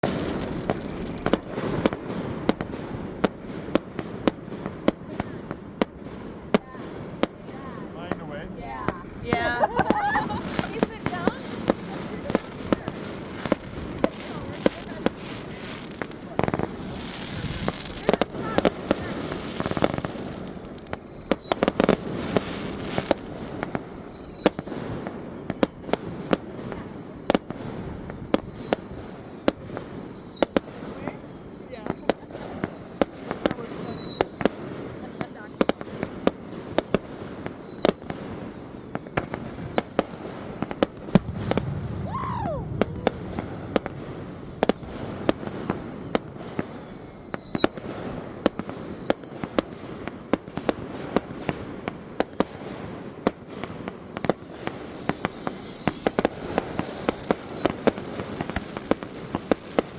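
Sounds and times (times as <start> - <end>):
crackling hiss: 0.0 - 6.0, 6.6 - 59.9
fireworks bangs: 0.0 - 59.9.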